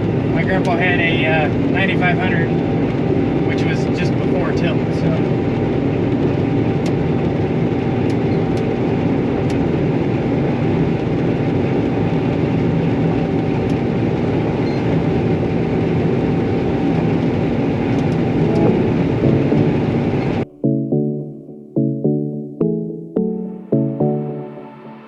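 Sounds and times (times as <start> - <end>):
combine harvester drone: 0.0 - 20.5
faint steady whine: 0.0 - 22.2.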